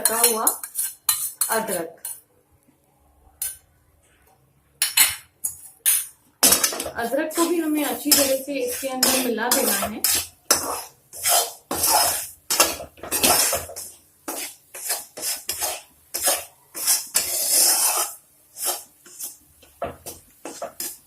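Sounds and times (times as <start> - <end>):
utensil scraping a wok: 0.0 - 2.2, 4.9 - 21.0.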